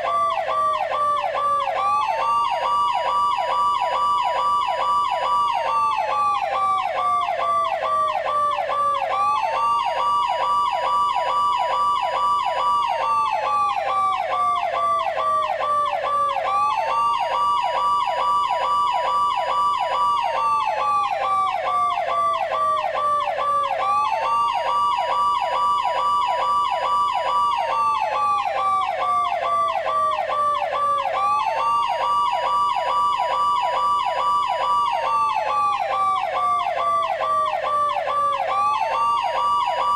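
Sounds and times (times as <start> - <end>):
fast pulsing siren yelp: 0.0 - 39.9
police siren wail: 0.0 - 39.9.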